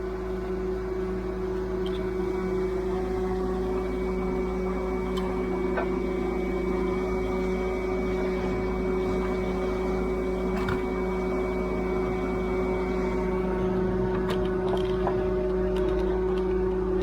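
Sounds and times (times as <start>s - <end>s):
constant tones: 0.0s - 17.0s
steady machine hum: 0.0s - 17.0s.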